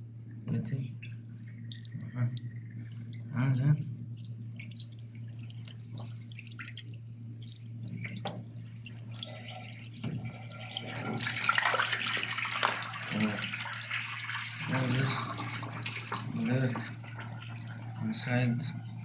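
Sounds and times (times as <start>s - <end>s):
water draining and splashing: 0.2s - 19.0s.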